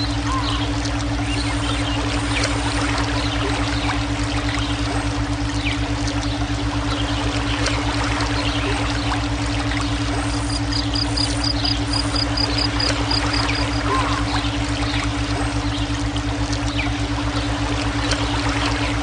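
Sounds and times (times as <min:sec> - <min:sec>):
flowing water: 0:00.0 - 0:19.0
low pulsing tones: 0:00.0 - 0:19.0.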